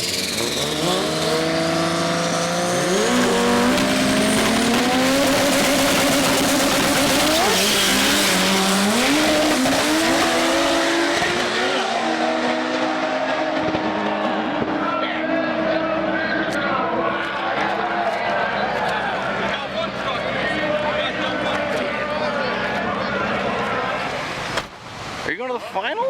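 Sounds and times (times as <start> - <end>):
racing engine revving hard: 0.0 - 24.6.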